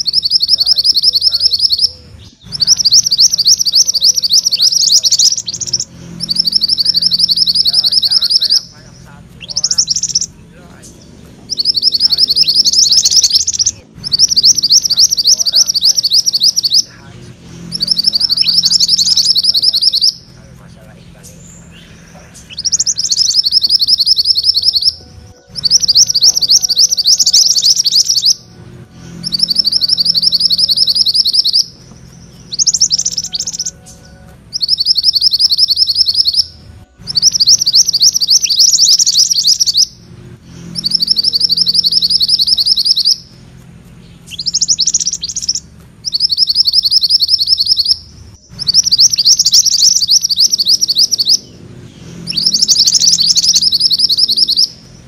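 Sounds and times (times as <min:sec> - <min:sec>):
songbird trilling: 0:00.0 - 0:55.0.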